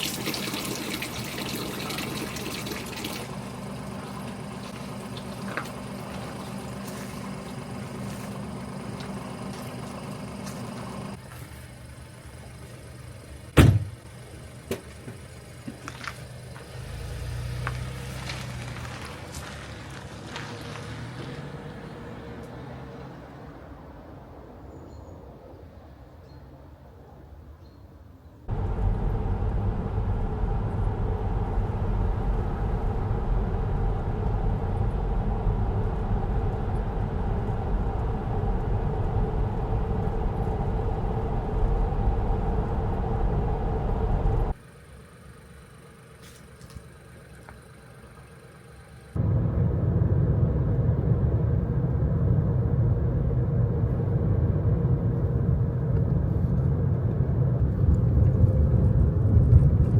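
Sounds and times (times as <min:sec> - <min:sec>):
car tyres and engine rumble: 0:00.0 - 0:25.2, 0:28.4 - 0:59.9.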